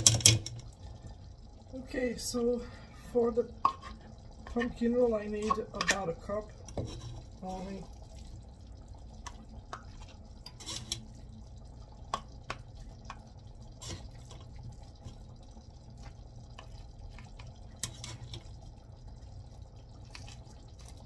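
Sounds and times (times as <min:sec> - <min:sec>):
scooping clicks and wet drips: 0:00.0 - 0:02.5, 0:03.2 - 0:21.0
steady low hum: 0:00.0 - 0:21.0.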